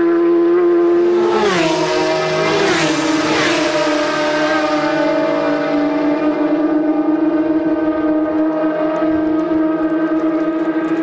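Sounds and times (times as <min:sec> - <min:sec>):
racing motorcycles passing: 0:00.0 - 0:11.0.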